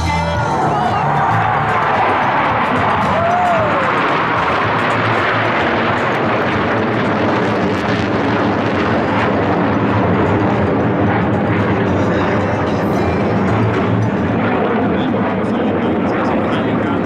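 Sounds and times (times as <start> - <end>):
jet engine noise: 0.0 - 17.0.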